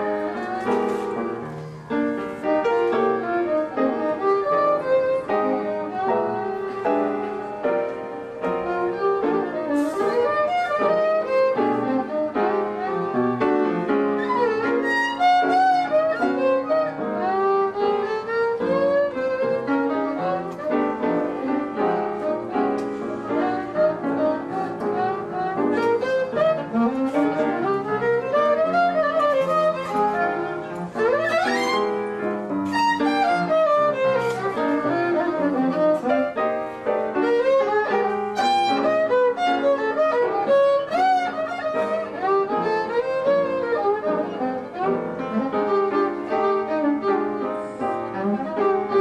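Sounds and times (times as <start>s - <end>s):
jazz violin melody: 0.0s - 49.0s
piano chords: 0.0s - 49.0s.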